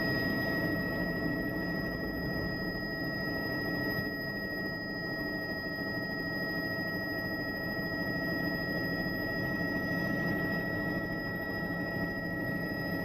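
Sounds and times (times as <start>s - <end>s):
engine and rotor drone: 0.0s - 13.0s.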